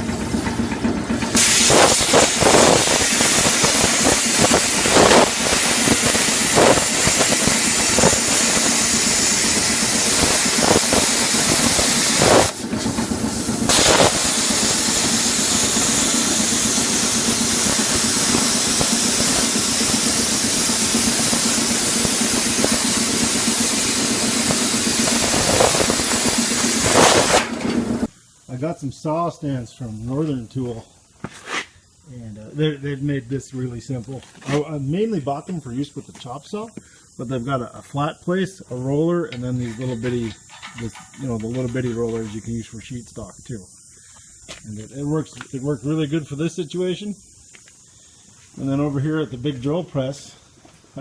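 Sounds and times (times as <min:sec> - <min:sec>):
constant low hum: 0:00.0 - 0:50.9
plasma cutter hissing: 0:01.2 - 0:30.6, 0:33.4 - 0:51.0.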